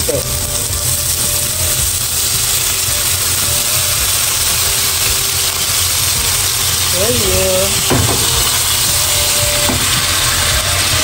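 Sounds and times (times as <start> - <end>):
sauce sizzling in frying pan: 0.0 - 11.0.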